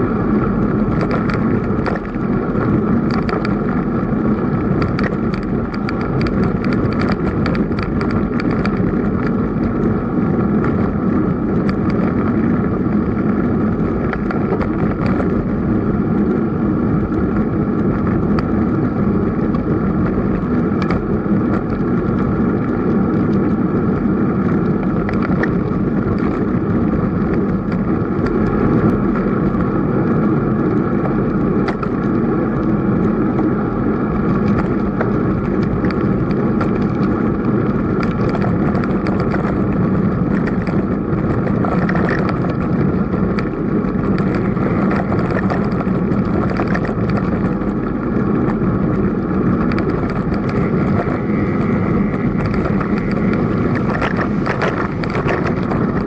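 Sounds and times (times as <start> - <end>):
bicycle tyre noise on pavement: 0.0 - 56.0
wind over microphone: 0.0 - 56.0
small clicks and rattles: 0.1 - 56.0.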